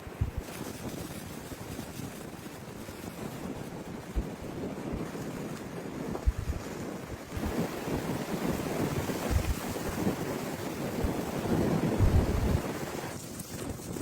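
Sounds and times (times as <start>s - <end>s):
wind buffeting microphone: 0.0s - 14.0s
wind rushing and gusting: 0.0s - 14.0s.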